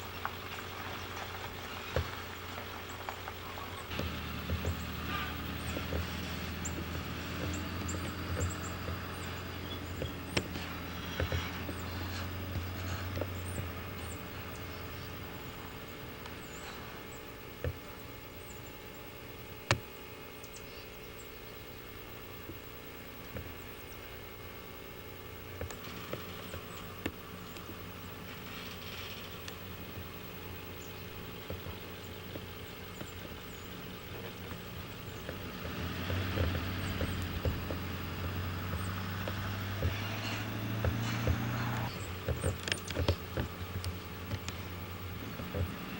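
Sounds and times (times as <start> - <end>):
engine running: 0.0 - 45.9
steady background hum: 0.0 - 45.9.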